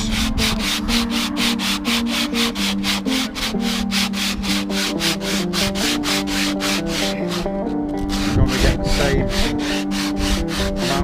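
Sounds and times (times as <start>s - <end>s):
background music: 0.0s - 11.0s
sandpaper rubbing on wood: 0.0s - 11.0s.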